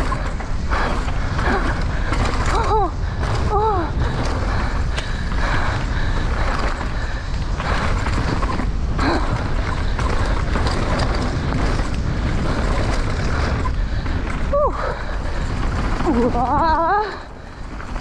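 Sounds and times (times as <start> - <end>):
bike clattering on rough ground: 0.0 - 18.0
tyres rumbling on dirt: 0.0 - 18.0
wind buffeting on microphone: 0.0 - 18.0.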